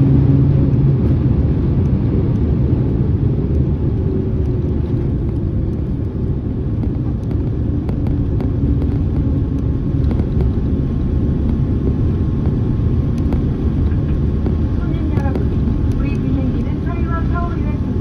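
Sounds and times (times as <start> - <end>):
jet engines and wheels rumbling: 0.0 - 18.0.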